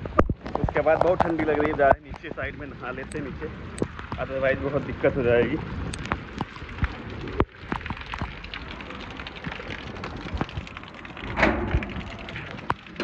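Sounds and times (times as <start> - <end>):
heavy rain pouring: 0.0 - 13.0
raindrops tapping on phone: 0.0 - 13.0.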